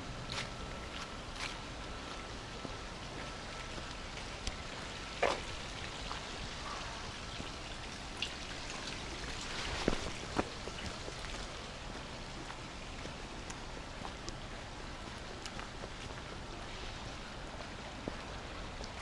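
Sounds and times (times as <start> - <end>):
light rain hissing: 0.2 - 19.0
sharp rain taps: 2.6 - 19.0.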